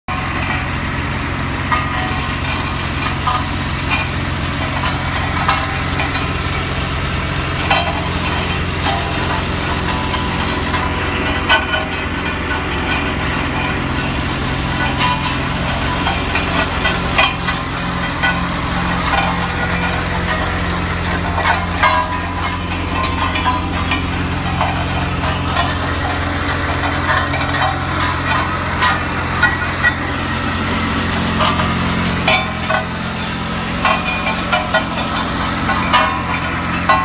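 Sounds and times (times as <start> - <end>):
roller engine running: 0.0 - 37.0
light clanks and rattles: 0.1 - 37.0.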